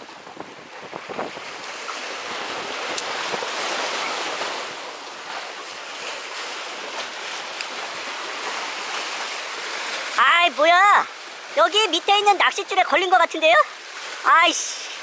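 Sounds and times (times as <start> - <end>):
sea surf breaking on concrete: 0.0 - 15.0.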